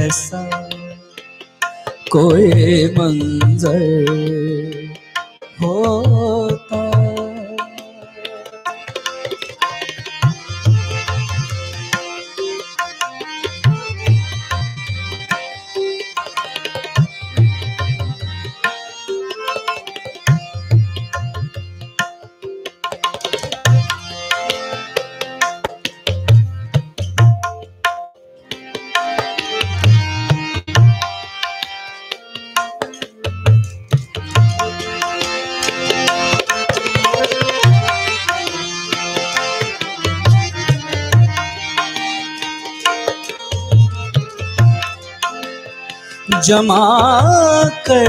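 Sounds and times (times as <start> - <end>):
harmonium melody: 0.0 - 48.0
tabla rhythm: 0.0 - 48.0.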